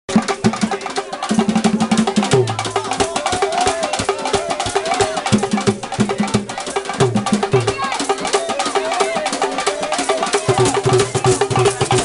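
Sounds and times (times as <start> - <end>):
hand drums fast rhythm: 0.1 - 12.0.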